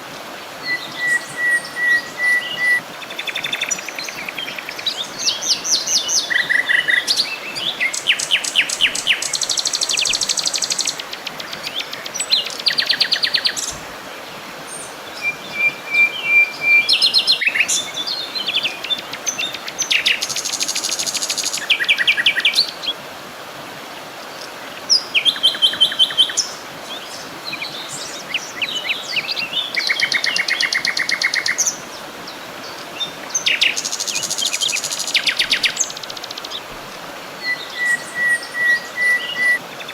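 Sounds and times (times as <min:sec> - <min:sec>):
songbirds singing and calling: 0:00.0 - 0:23.0, 0:23.9 - 0:39.9
faint outdoor hiss: 0:00.0 - 0:39.9.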